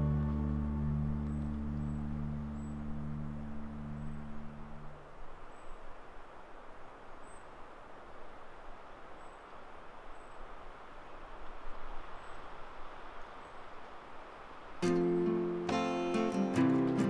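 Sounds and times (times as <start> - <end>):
forest rushing background: 0.0 - 17.0.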